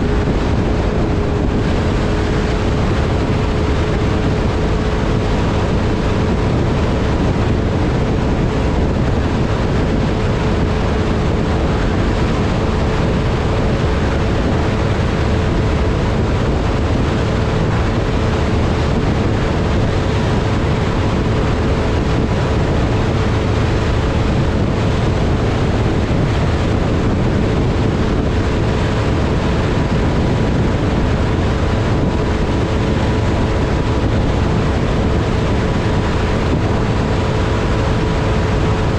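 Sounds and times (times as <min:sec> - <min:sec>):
outboard motor running: 0:00.0 - 0:38.9
rush of wind and water: 0:00.0 - 0:38.9.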